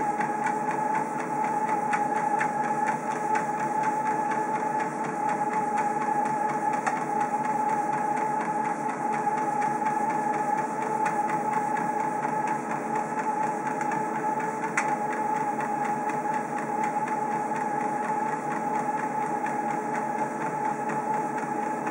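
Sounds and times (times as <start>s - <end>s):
treadmill belt hum: 0.0s - 21.9s
treadmill motor whine: 0.0s - 21.9s.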